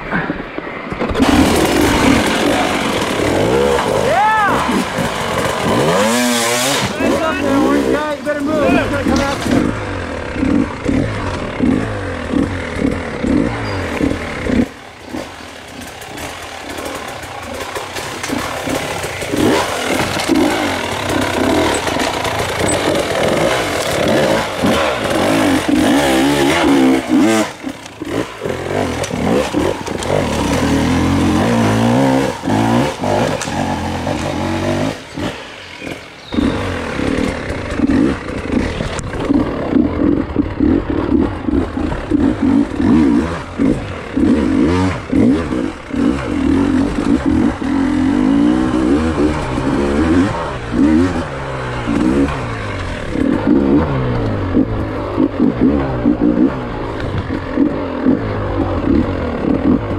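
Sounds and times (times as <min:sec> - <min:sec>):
dirt bike engine revving: 0:01.0 - 0:59.9.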